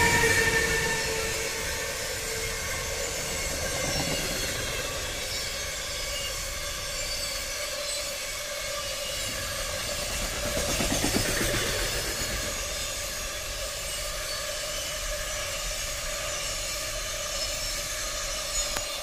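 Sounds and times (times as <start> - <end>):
faint high wheel squeal: 0.0 - 19.0
freight train wheels rumbling: 0.0 - 19.0.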